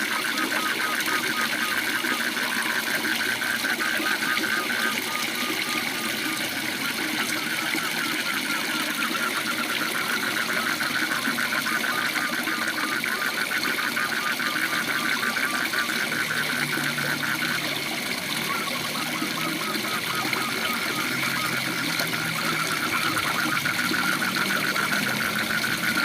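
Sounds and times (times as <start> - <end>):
frog calling pulsed notes: 0.0 - 26.0.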